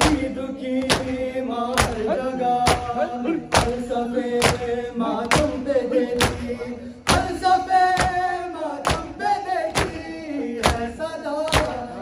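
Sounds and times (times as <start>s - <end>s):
man chanting a lament: 0.0s - 12.0s
men slapping bare chests: 0.0s - 12.0s.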